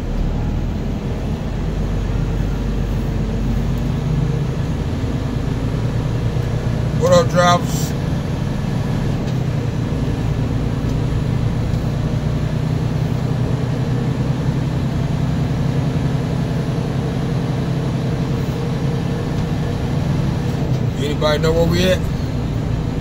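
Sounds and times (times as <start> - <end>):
truck diesel engine drone: 0.0 - 23.0.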